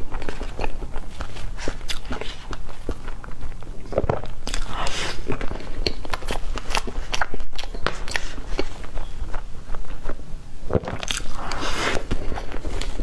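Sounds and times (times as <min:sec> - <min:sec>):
person chewing soft cake: 0:00.0 - 0:13.0.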